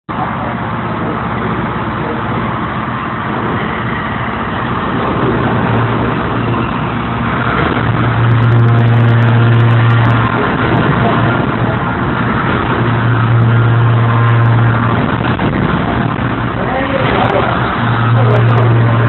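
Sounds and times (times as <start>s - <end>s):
forging press machine noise: 0.1s - 19.0s.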